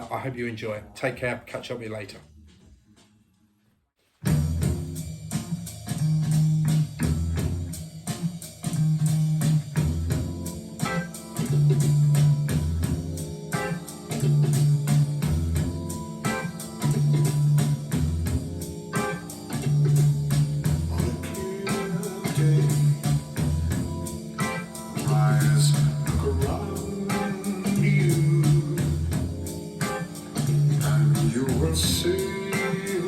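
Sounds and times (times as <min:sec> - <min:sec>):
bass guitar figure: 0:04.2 - 0:32.4
guitar: 0:04.2 - 0:33.0
steady drum beat: 0:04.2 - 0:33.0.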